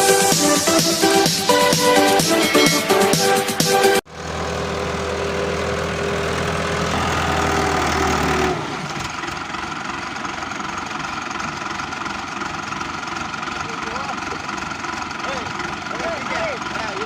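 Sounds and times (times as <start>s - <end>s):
tractor diesel engine chugging: 0.0s - 17.0s.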